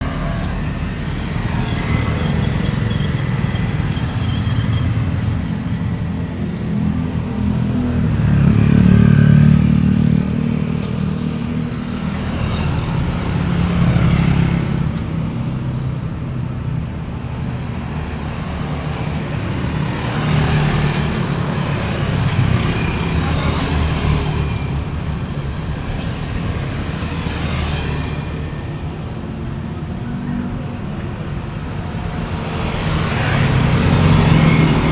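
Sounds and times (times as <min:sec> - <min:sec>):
road traffic passing: 0:00.0 - 0:34.9.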